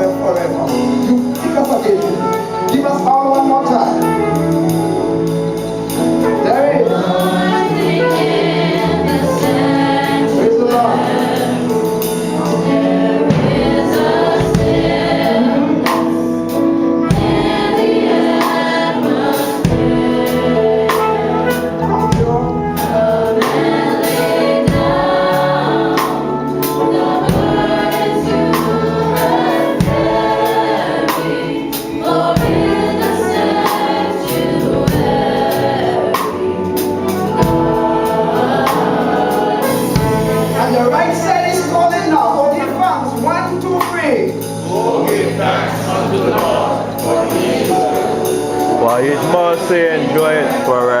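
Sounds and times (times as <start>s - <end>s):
choir singing gospel: 0.0s - 51.0s
instrumental accompaniment with beat: 0.0s - 51.0s.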